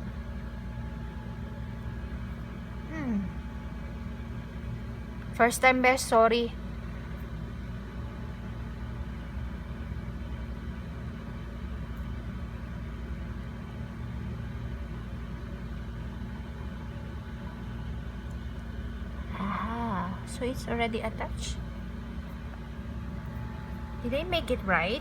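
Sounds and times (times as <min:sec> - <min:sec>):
steady low machine hum: 0:00.0 - 0:25.0.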